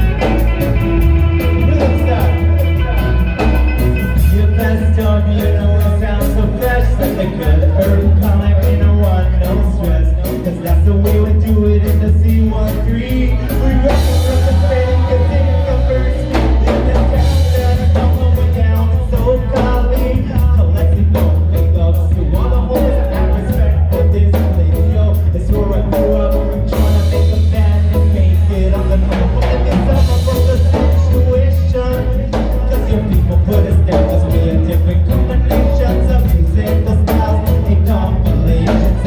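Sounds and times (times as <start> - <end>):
bass guitar: 0.0 - 39.0
drum kit: 0.0 - 39.0
person singing: 0.0 - 39.0.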